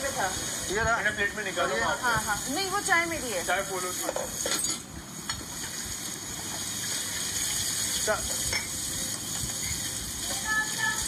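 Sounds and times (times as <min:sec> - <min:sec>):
food sizzling in frying: 0:00.0 - 0:11.0.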